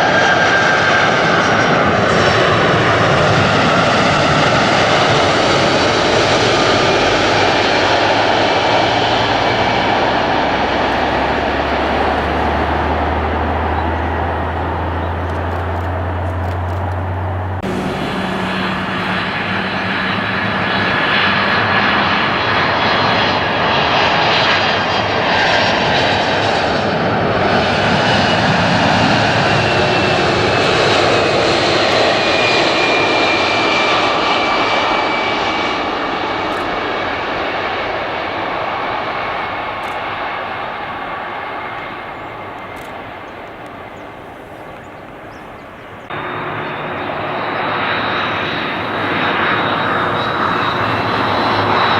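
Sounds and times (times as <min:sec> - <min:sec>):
jet engines passing overhead: 0:00.0 - 0:51.9.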